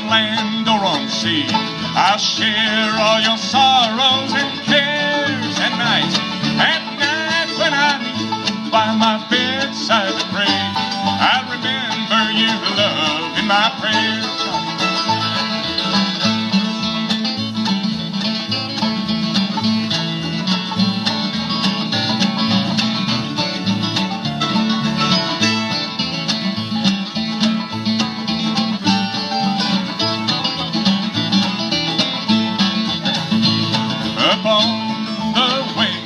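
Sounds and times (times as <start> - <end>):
bluegrass band playing: 0.0 - 36.0.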